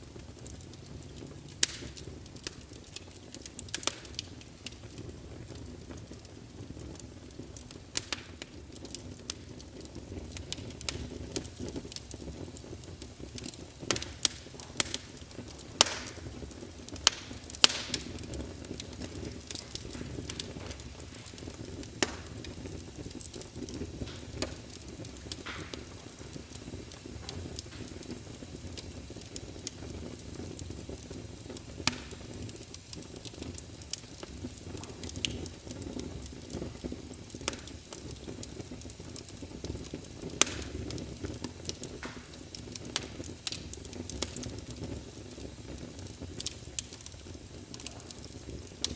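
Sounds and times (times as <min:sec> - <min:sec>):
fire crackles and pops: 0:00.0 - 0:48.9
low rush of flame: 0:00.0 - 0:48.9.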